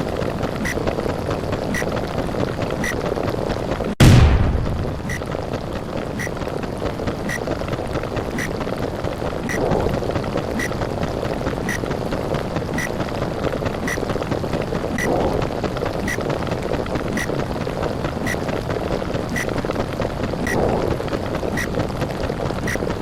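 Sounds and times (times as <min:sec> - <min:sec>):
muffled underwater rumble: 0:00.0 - 0:23.0.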